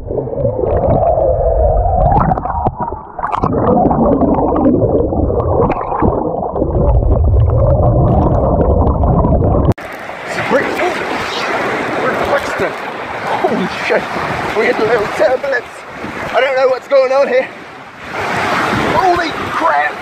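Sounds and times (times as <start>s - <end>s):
water rushing and gurgling underwater: 0.0s - 16.4s.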